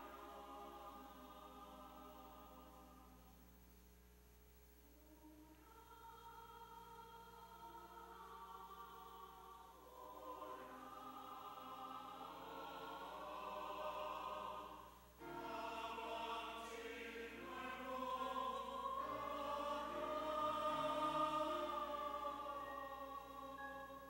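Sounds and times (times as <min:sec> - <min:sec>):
church choir singing hymn: 0:00.0 - 0:03.4, 0:05.0 - 0:24.0.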